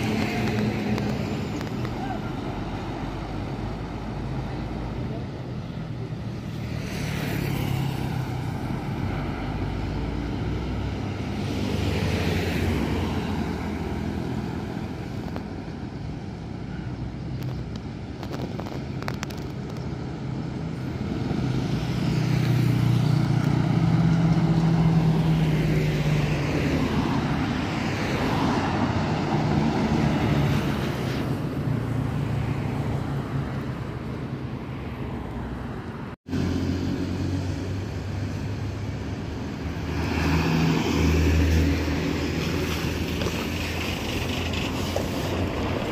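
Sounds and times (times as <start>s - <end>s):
bus passing: 0.0s - 45.9s
traffic passing: 0.0s - 45.9s.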